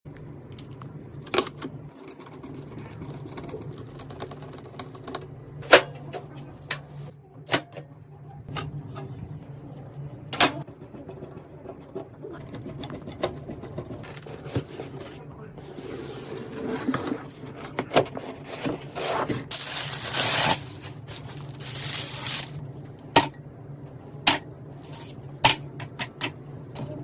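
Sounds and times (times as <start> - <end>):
steady low hum: 0.1 - 27.0.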